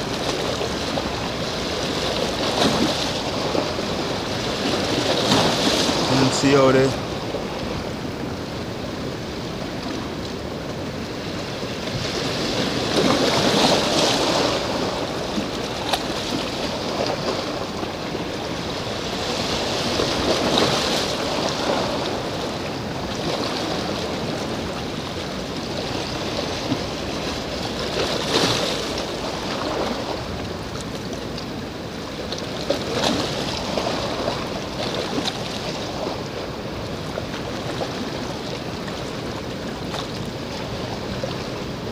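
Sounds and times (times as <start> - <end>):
sea waves washing against shore: 0.0 - 41.9.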